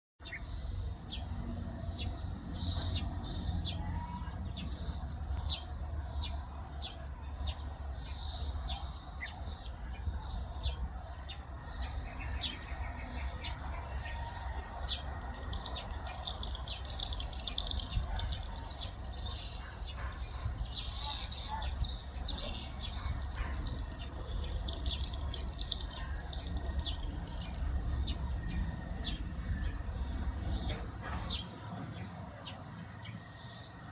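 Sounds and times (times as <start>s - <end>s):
small birds chirping: 0.2s - 33.9s
high-pitched insect trill: 4.7s - 33.9s.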